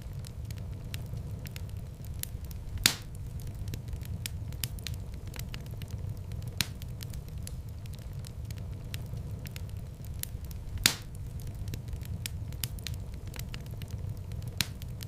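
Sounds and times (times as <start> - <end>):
fire crackling: 0.0 - 15.0
fire flames rumbling: 0.0 - 15.0
loud fire pops: 0.0 - 15.0.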